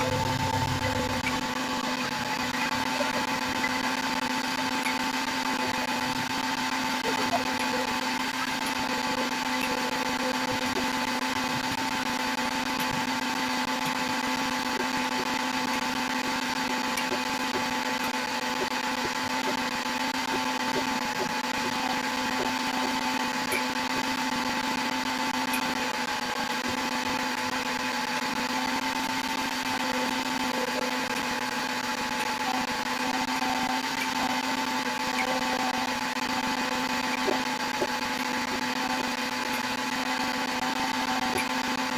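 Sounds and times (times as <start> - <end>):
electric motor humming: 0.0 - 41.9.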